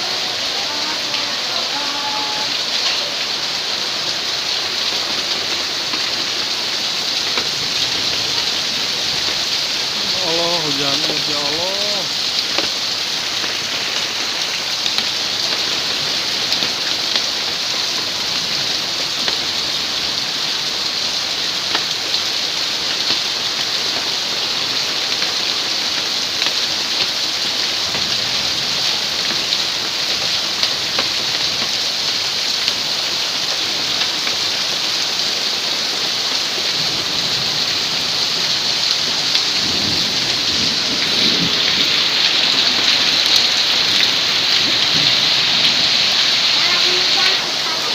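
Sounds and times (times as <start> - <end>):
heavy rain hissing: 0.0 - 47.9
hailstones ticking: 0.4 - 47.9.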